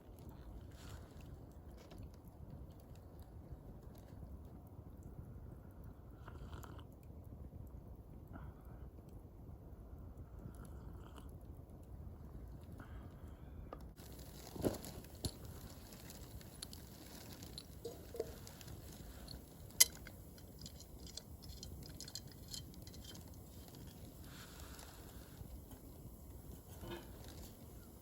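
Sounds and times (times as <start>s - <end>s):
wood fire crackling and popping: 0.0s - 8.3s, 9.0s - 28.0s.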